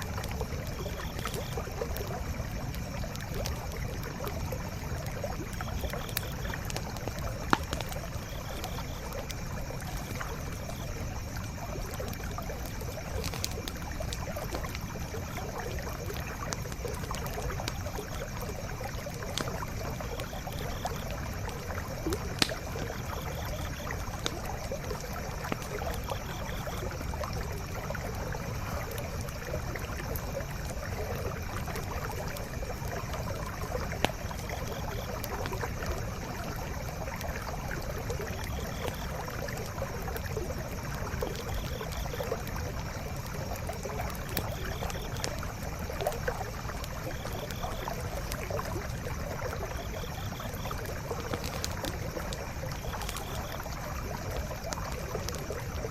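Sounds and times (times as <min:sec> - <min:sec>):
campfire crackling and popping: 0:00.0 - 0:55.9
stream flowing: 0:00.0 - 0:55.9.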